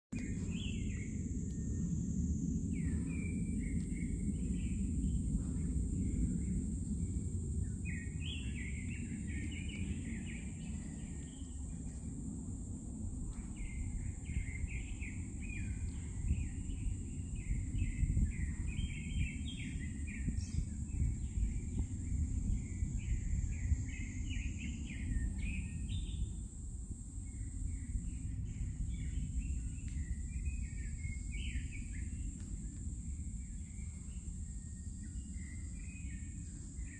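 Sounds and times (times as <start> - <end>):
low background rumble: 0.2 - 36.9
songbirds chirping: 0.2 - 36.9.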